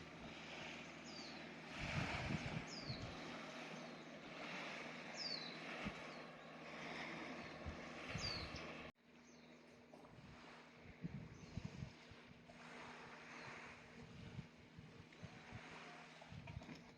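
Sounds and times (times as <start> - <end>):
faint sea waves on shore: 0.0 - 16.9.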